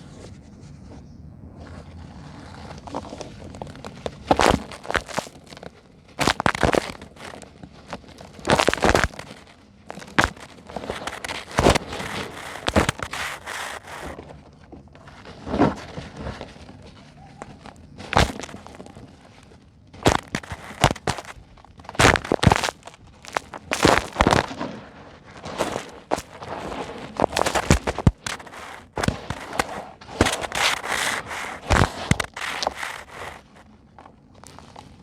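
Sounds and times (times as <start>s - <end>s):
dry concrete lumps crushed by hand: 1.8s - 35.0s.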